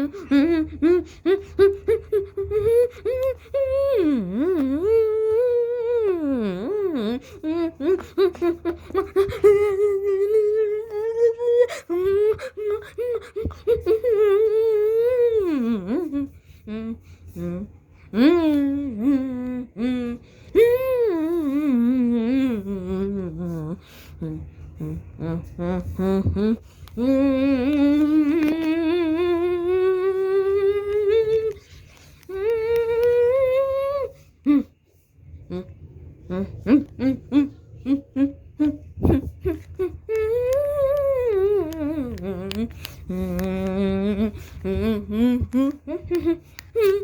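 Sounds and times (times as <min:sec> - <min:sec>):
person humming: 0:00.0 - 0:47.0.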